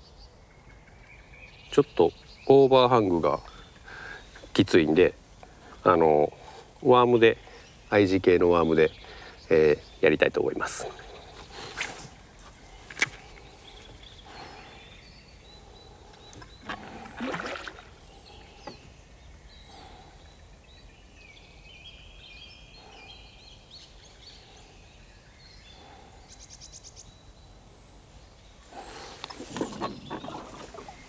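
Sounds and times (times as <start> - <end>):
birds calling: 0.0 - 31.0.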